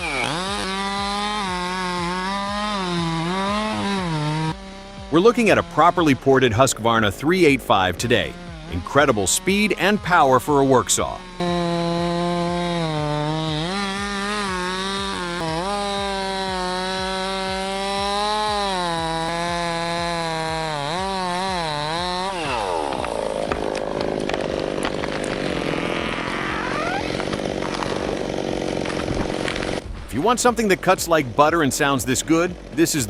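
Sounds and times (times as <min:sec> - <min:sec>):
chainsaw running at high revs: 0:00.0 - 0:33.0.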